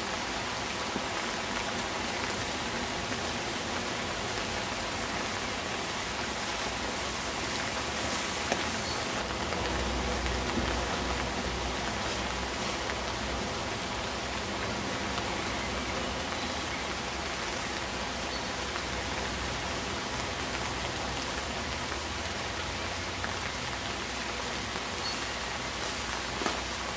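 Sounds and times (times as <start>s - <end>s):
rain on a plastic umbrella: 0.0s - 26.9s.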